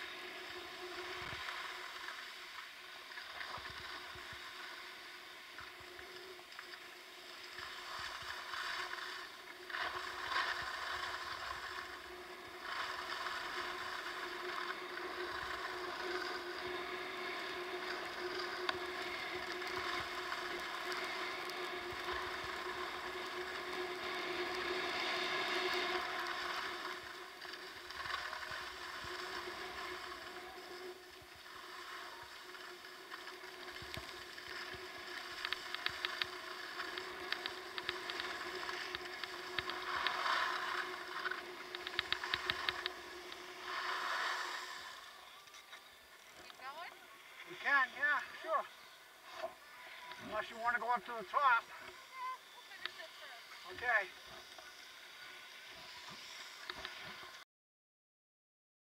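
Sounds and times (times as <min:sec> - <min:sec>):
skis scraping over snow: 0:00.0 - 0:57.4.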